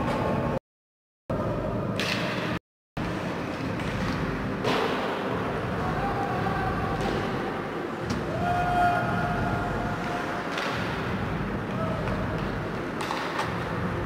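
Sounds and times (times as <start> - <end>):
arena noise of skating play: 0.0 - 0.6, 1.3 - 14.0.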